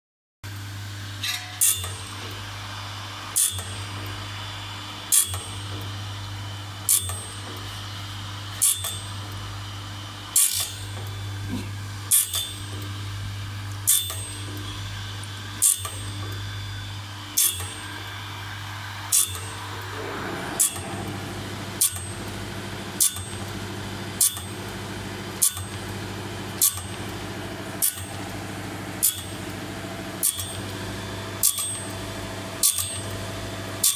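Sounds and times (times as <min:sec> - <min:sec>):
machine motor hum: 0:02.1 - 0:33.9.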